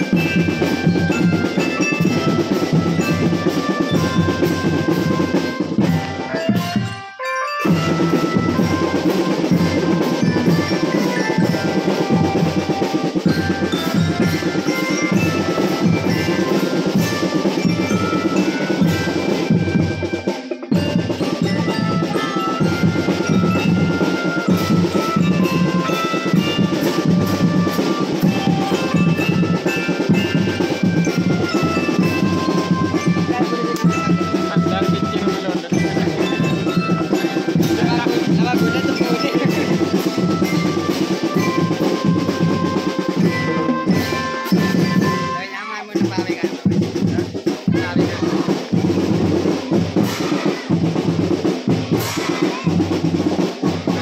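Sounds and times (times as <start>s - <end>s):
snare and bass drums: 0.0s - 7.0s, 7.6s - 54.0s
glockenspiel melody: 0.0s - 54.0s.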